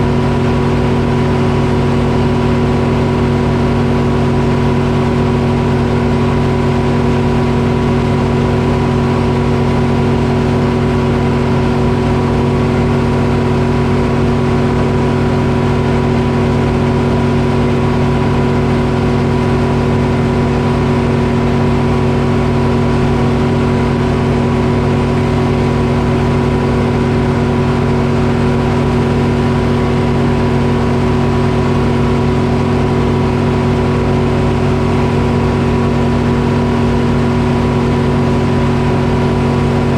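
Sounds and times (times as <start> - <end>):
diesel engine droning steadily: 0.0 - 39.9.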